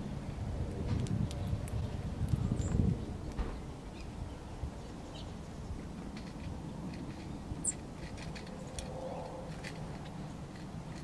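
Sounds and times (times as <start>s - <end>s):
birds cracking seeds: 0.6s - 4.2s, 4.8s - 11.0s.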